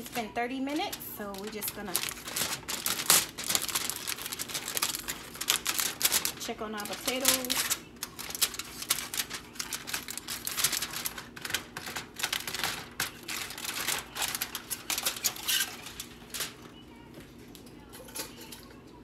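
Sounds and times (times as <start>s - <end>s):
aluminum foil crinkling: 0.0s - 18.8s.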